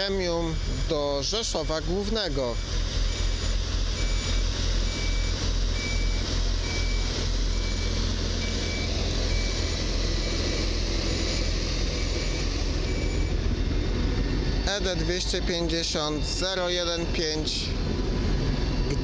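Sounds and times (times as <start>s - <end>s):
diesel engine rumble: 0.0s - 19.0s
train pulling in: 0.0s - 19.0s
truck reversing alarm beeping: 0.0s - 19.0s.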